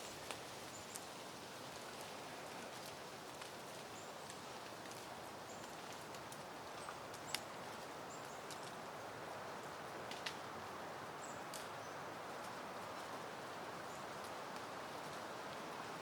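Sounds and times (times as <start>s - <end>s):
wind rustling through plants: 0.0s - 16.0s.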